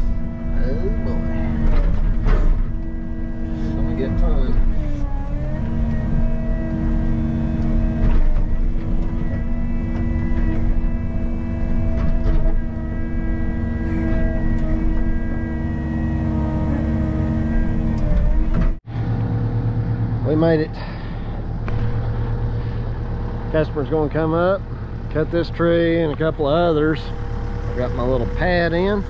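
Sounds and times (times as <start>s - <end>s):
excavator engine and hydraulics: 0.0s - 29.0s
steady whine: 0.0s - 29.0s.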